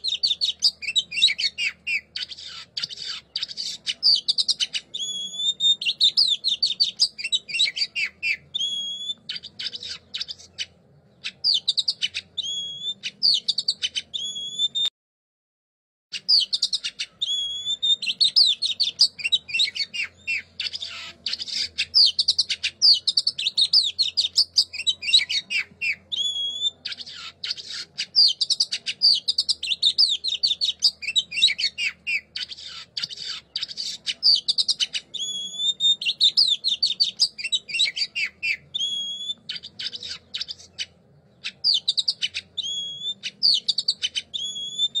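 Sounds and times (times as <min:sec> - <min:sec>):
songbird singing: 0:00.0 - 0:14.9, 0:16.1 - 0:45.0.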